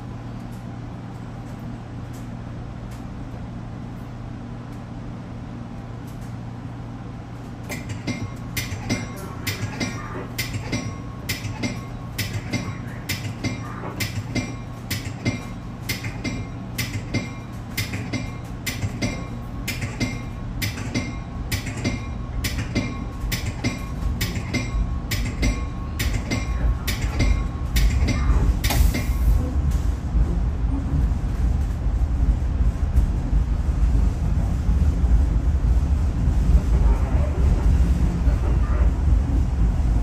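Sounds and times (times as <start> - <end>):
deep train rumble: 0.0 - 40.0
train steady low hum: 0.0 - 40.0.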